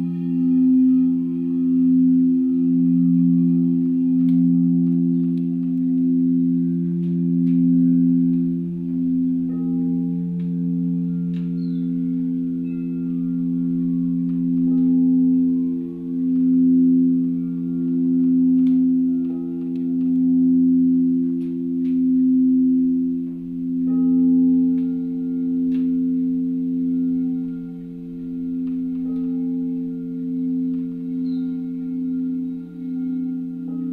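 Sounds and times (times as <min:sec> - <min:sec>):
singing bowls ringing: 0:00.0 - 0:33.9.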